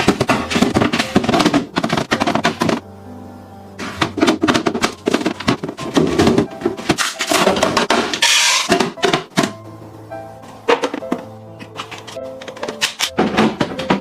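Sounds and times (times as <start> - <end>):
plastic containers clattering: 0.0 - 2.8, 3.8 - 9.6, 10.6 - 14.0.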